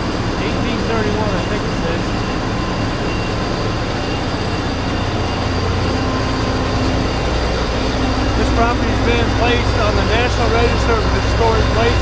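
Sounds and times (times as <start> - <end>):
heavy engine droning: 0.0 - 12.0
low engine note: 0.0 - 12.0
thin steady whine: 0.0 - 12.0.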